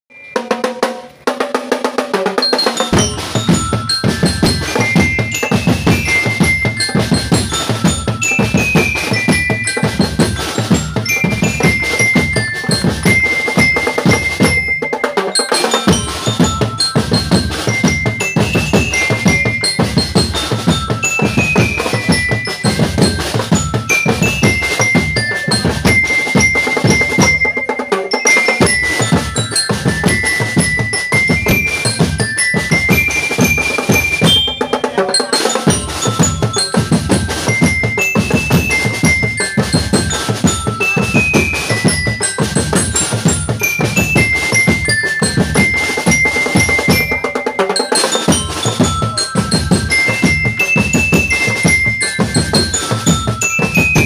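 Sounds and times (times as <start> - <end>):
bell lyres playing melody: 0.1 - 54.0
snare and bass drums: 0.2 - 54.0.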